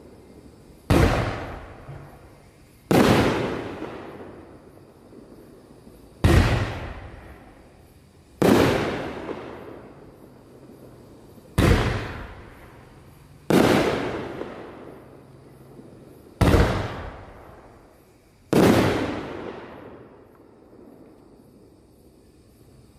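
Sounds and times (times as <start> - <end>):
fireworks booms: 0.0 - 21.8.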